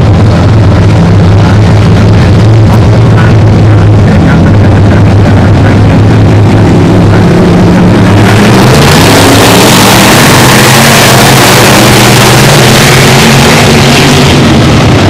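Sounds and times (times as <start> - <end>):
race cars passing at full throttle: 0.0 - 15.0.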